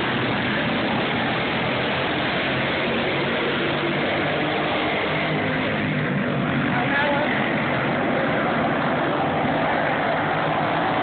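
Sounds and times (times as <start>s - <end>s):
go-kart engines racing: 0.0s - 11.0s.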